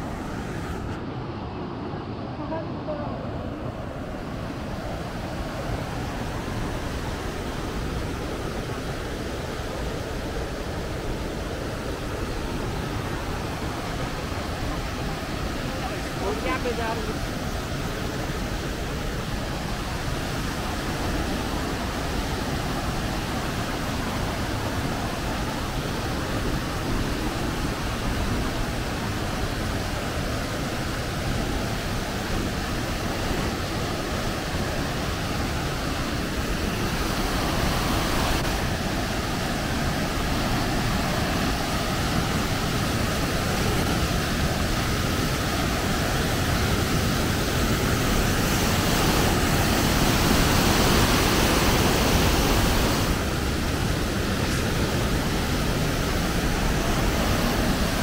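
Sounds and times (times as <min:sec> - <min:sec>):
water rushing in waterfalls: 0:00.0 - 0:58.0.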